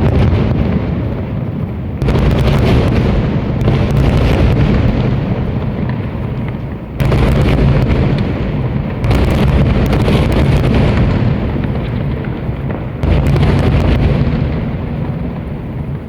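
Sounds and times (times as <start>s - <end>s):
deep rolling rumble: 2.0s - 16.0s
firework shells bursting: 2.0s - 16.0s.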